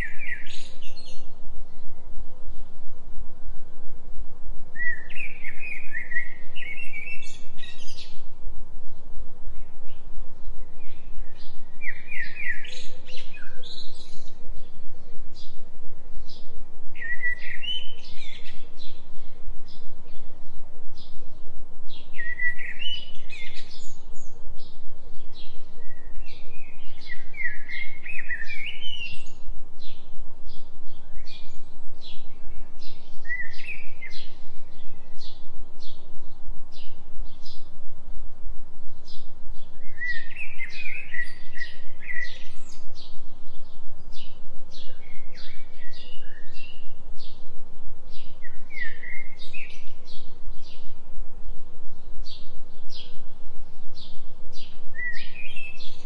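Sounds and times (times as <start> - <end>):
songbirds chirping and singing: 0.0 - 2.7, 4.8 - 8.4, 9.0 - 37.9, 39.0 - 56.0
steady low hum tone: 0.0 - 56.0.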